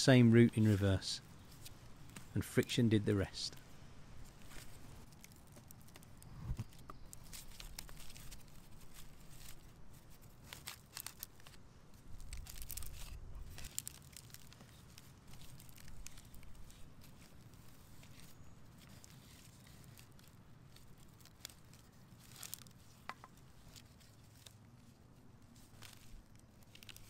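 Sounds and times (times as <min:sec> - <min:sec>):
withies crackling and rustling: 0:00.0 - 0:27.0.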